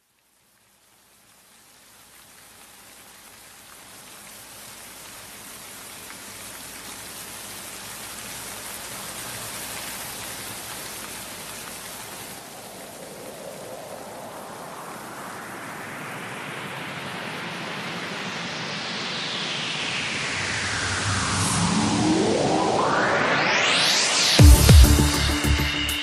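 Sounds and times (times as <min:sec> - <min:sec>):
steady rain falling: 0:00.0 - 0:23.3.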